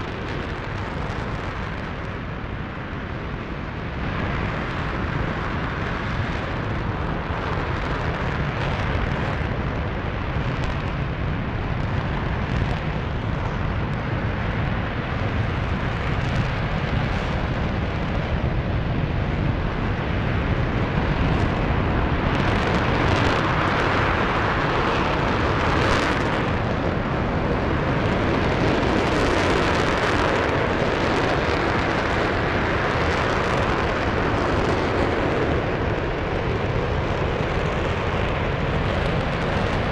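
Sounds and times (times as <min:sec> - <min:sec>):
rocket engine rumble and hiss: 0:00.0 - 0:39.9.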